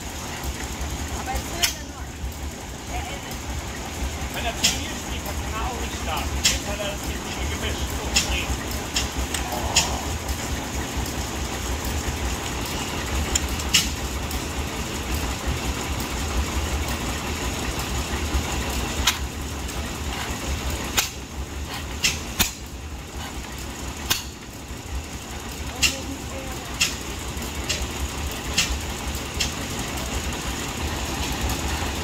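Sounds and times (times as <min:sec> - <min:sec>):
engine low rumble: 0:00.0 - 0:32.0.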